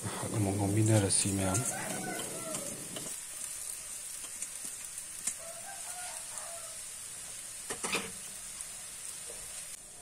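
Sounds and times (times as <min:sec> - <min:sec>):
noodles sizzling in pan: 0:00.0 - 0:10.0.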